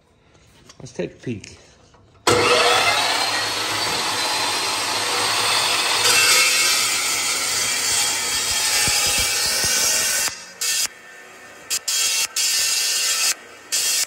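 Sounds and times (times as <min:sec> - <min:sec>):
power saw cutting metal: 0:02.2 - 0:14.0.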